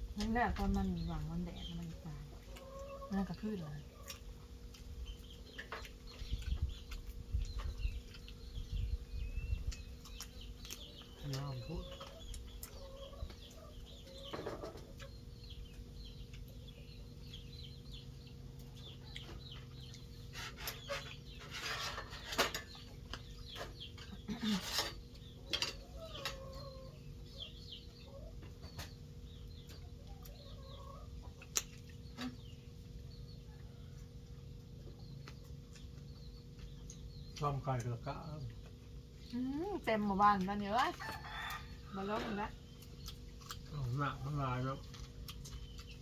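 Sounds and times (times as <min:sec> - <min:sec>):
chickens clucking: 0:00.1 - 0:46.0.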